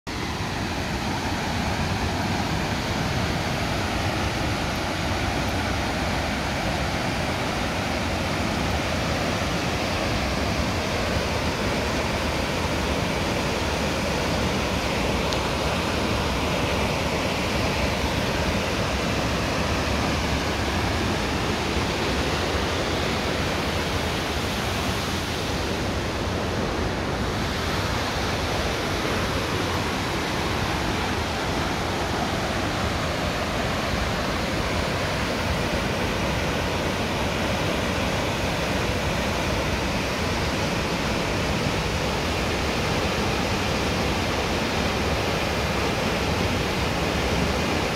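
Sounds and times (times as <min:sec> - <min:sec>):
waterfall rushing: 0:00.1 - 0:47.9.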